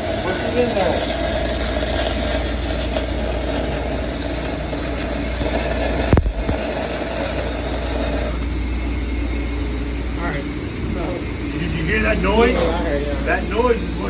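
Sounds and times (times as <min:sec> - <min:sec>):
welding arc crackling and hissing: 0:00.0 - 0:14.0
low hum: 0:01.3 - 0:14.0.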